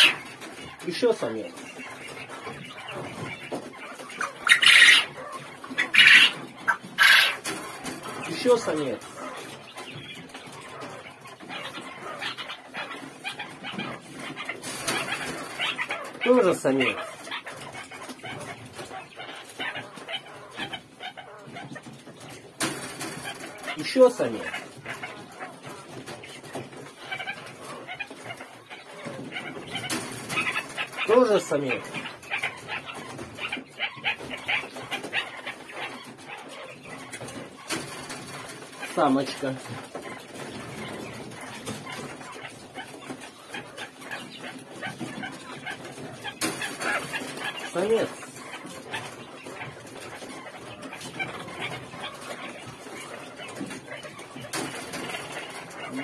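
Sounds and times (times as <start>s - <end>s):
hands rustling in wire cages: 0.0s - 56.0s
quail chirping: 0.0s - 56.0s.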